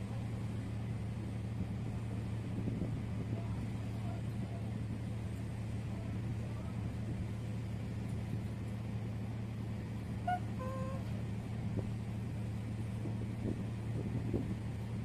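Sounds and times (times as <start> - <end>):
diesel engines humming: 0.0 - 15.0.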